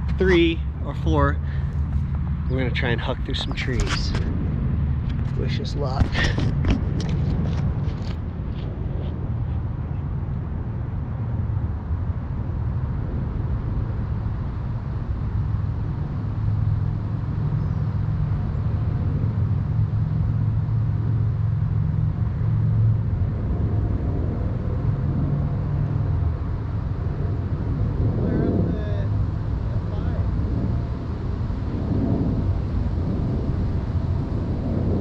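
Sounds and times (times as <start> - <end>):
quadcopter rumble: 0.0 - 35.0.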